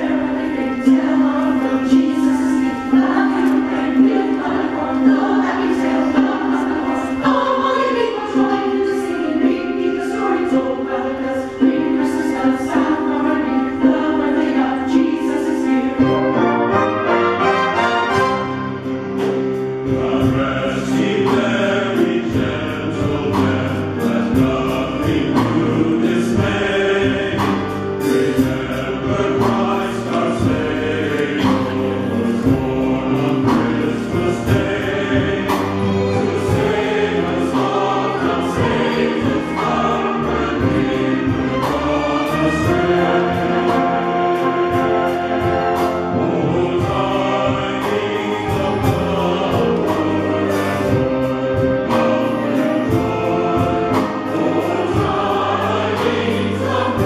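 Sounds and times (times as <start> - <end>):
church choir singing: 0.0 - 57.0
instrumental accompaniment: 0.0 - 57.0.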